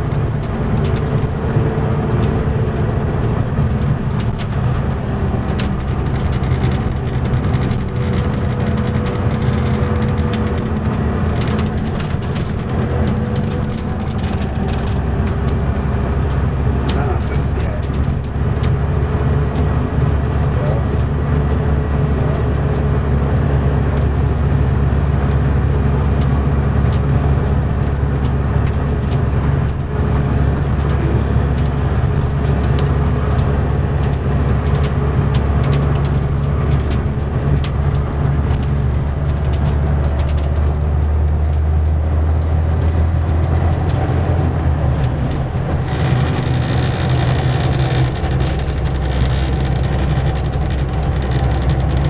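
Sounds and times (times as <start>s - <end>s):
coach diesel engine drone: 0.0s - 52.0s
road and tyre noise: 0.0s - 52.0s
small clicks and rattles: 0.0s - 52.0s.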